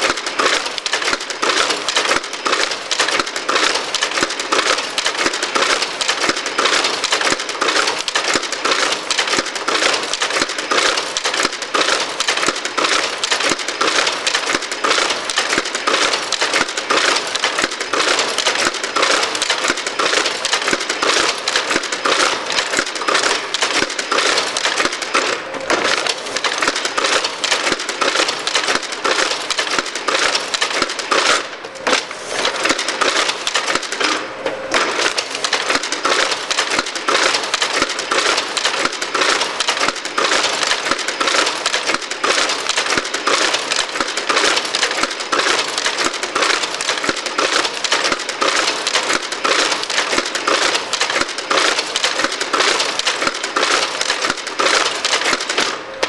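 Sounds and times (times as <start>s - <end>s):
book-sewing machine clattering: 0.0s - 56.0s.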